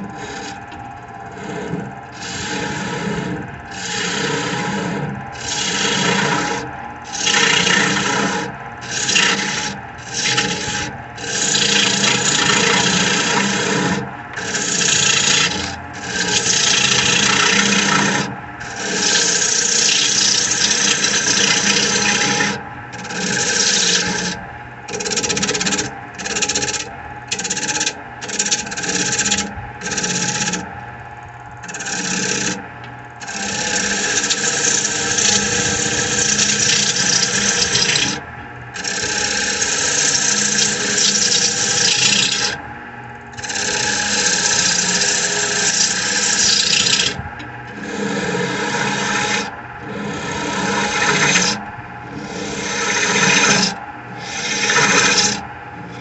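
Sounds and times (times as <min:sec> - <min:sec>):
gouge cutting wood on lathe: 0:00.0 - 0:30.7, 0:31.6 - 0:38.2, 0:38.8 - 0:42.6, 0:43.4 - 0:56.0
lathe motor humming: 0:00.0 - 0:56.0.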